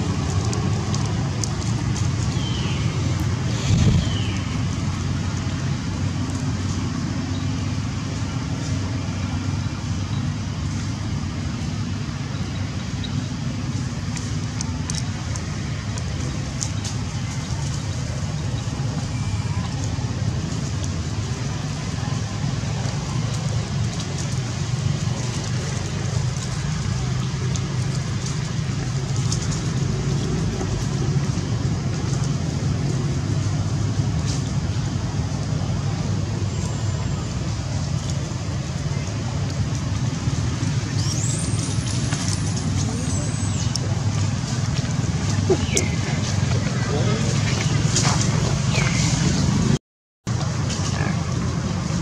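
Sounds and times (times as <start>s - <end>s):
traffic rumble: 0.0s - 52.0s.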